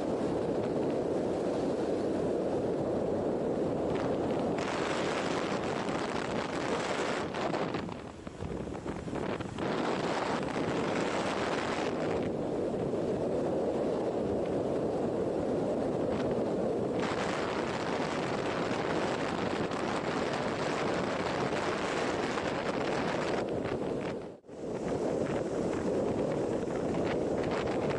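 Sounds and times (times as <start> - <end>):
motorcycle engine and road noise: 0.0 - 27.9
wind rush over microphone: 0.0 - 27.9.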